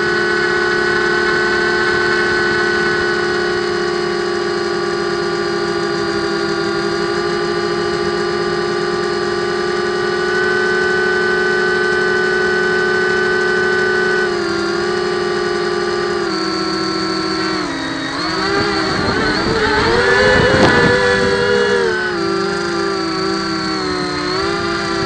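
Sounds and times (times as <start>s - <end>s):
quadcopter motors whining: 0.0s - 25.0s.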